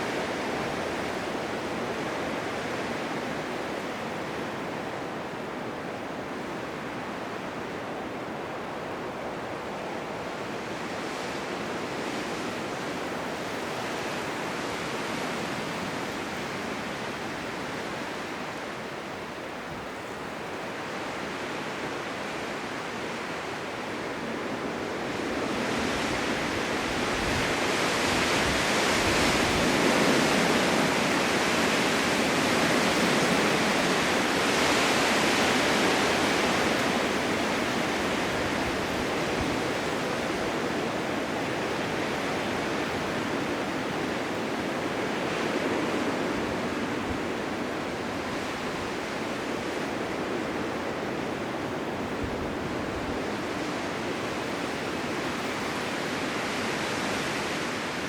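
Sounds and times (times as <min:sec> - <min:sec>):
blizzard wind rushing: 0:00.0 - 0:58.0.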